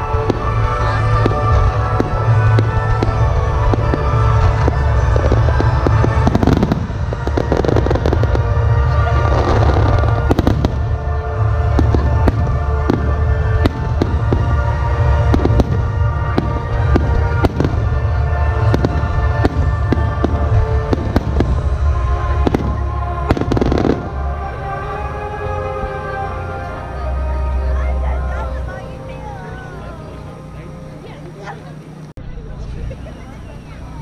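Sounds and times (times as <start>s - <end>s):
music playing: 0.0s - 34.0s.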